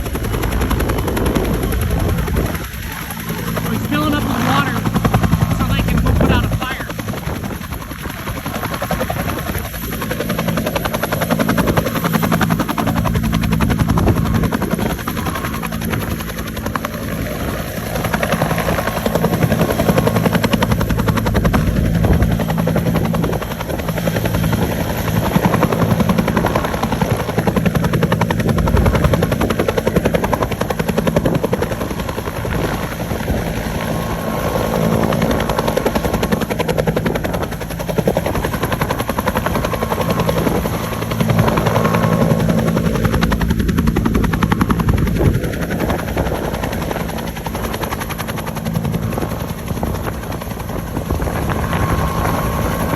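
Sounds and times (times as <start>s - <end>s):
helicopter rotor chop: 0.0s - 52.9s.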